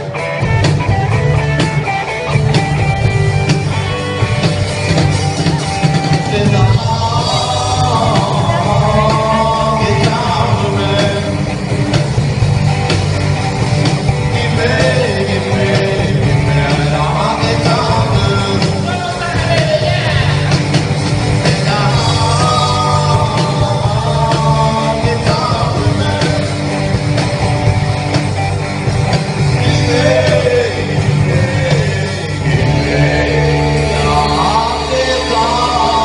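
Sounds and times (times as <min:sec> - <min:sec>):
live rock band: 0:00.0 - 0:36.0
person singing lead vocal: 0:03.5 - 0:12.4, 0:13.7 - 0:27.9, 0:28.9 - 0:36.0.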